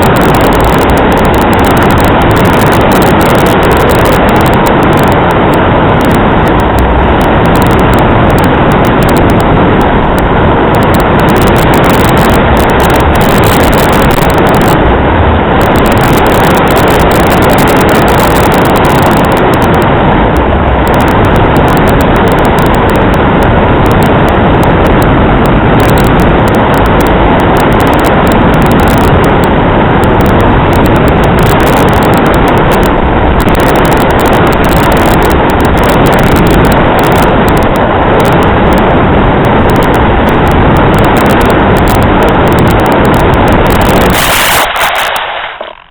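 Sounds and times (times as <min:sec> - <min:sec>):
strong wind on microphone: 0:00.0 - 0:45.9.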